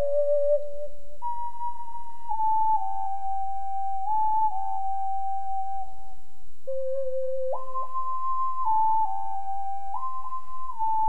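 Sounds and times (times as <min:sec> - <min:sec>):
ocarina playing slow melody: 0:00.0 - 0:11.0.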